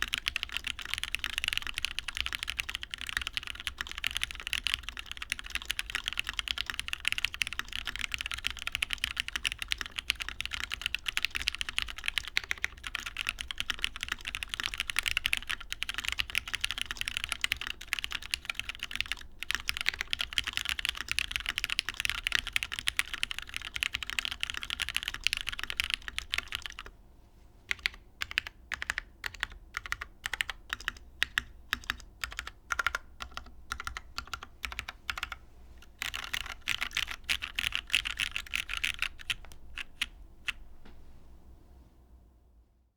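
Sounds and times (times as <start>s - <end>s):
mechanical keyboard typing: 0.0s - 26.9s, 27.7s - 40.6s.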